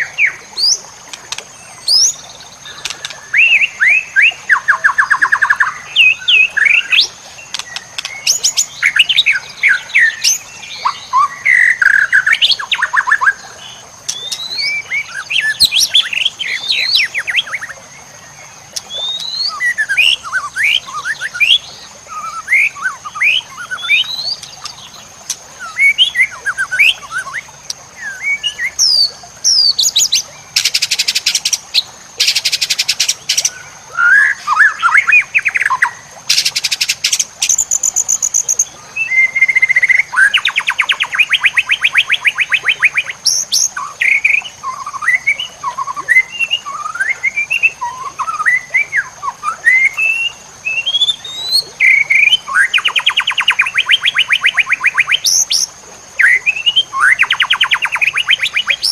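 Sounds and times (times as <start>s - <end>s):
songbird singing whistles and trills: 1.6s - 17.8s, 18.8s - 58.9s.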